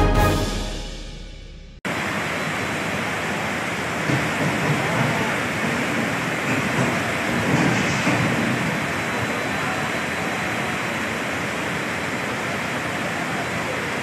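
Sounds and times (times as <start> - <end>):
floodwater rushing: 1.9 - 14.0
heavy rain falling: 1.9 - 14.0.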